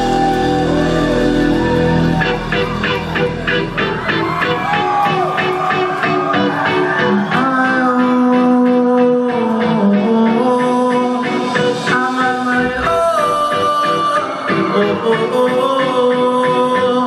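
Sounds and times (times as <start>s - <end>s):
live reggae band playing: 0.0s - 17.0s.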